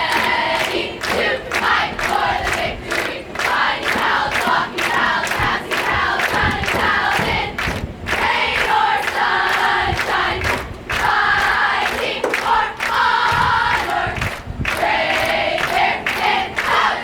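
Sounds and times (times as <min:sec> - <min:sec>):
crowd singing and chanting: 0:00.0 - 0:17.0.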